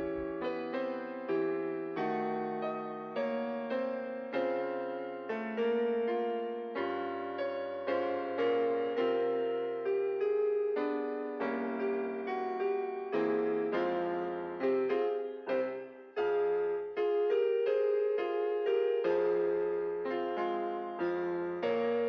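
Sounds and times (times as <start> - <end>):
keyboard notes and chords: 0.0 - 22.0.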